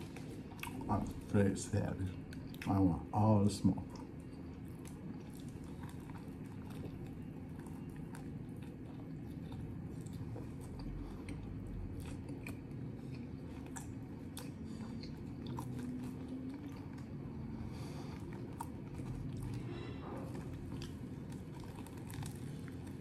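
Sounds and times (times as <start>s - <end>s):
person chewing food: 0.0s - 1.3s, 2.1s - 2.8s, 3.9s - 23.0s.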